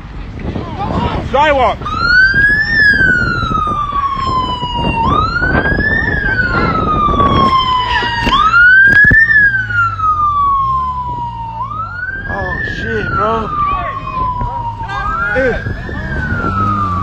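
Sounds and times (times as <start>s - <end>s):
wind rumble on microphone: 0.0s - 17.0s
police siren wailing: 0.9s - 17.0s.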